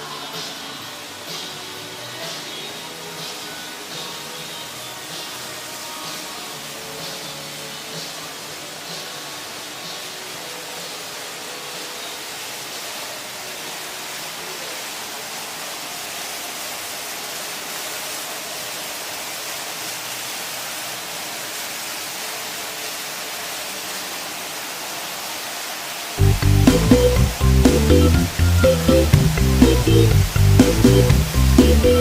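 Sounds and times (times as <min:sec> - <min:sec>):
steady rushing hiss: 0:00.0 - 0:32.0.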